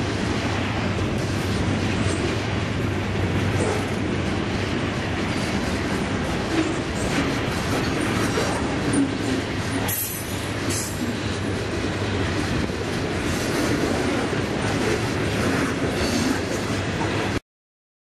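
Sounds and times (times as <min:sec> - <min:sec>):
train wheels rumbling on rails: 0:00.0 - 0:17.4.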